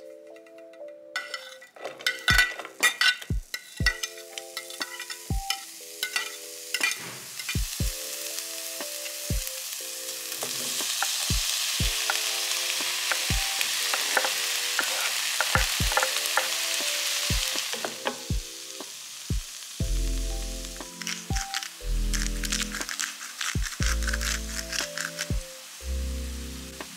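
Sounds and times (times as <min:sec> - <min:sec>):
onion sizzling in oil: 0:01.4 - 0:26.9
background music with steady beat: 0:02.2 - 0:26.9.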